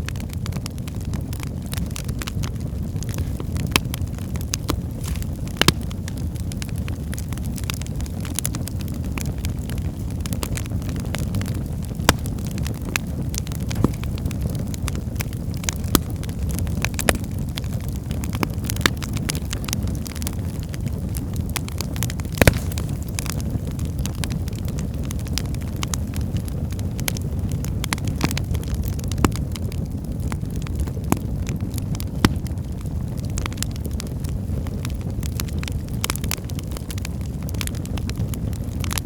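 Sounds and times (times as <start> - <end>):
crackles and pops of burning logs: 0.0 - 39.0
wood fire rumbling: 0.0 - 39.0.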